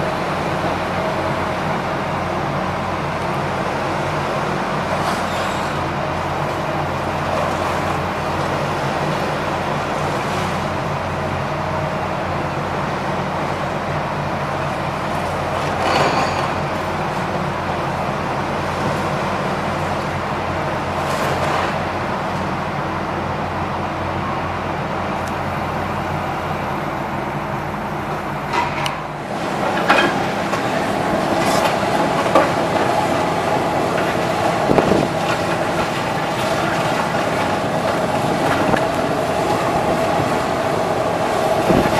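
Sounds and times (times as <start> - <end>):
heavy engine running: 0.0 - 41.9.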